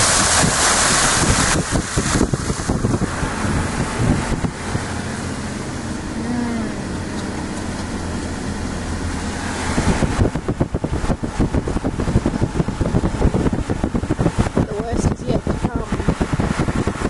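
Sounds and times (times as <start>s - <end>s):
car engine and road drone: 0.0s - 17.0s
wind buffeting microphone: 0.0s - 17.0s.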